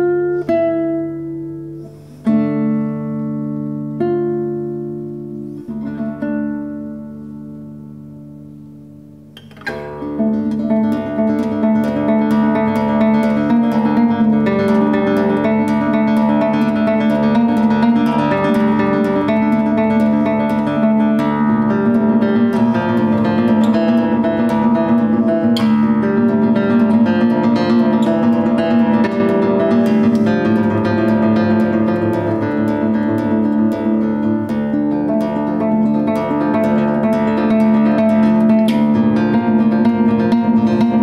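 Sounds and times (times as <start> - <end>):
fingerpicked classical guitar: 0.0 - 41.0.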